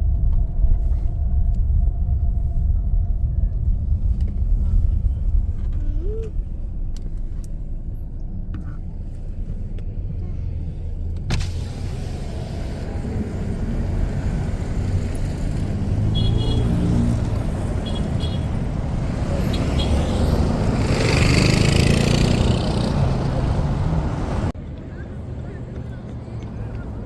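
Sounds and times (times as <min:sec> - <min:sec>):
vehicle rumbling: 0:00.0 - 0:27.0.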